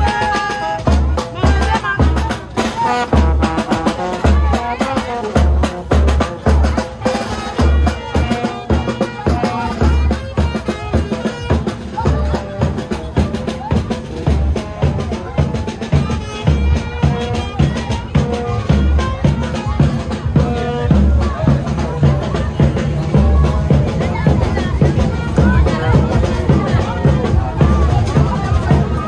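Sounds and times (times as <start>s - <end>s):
bass drum beat: 0.0s - 29.0s
marching band melody: 0.0s - 29.0s
snare drum strokes: 0.0s - 29.0s.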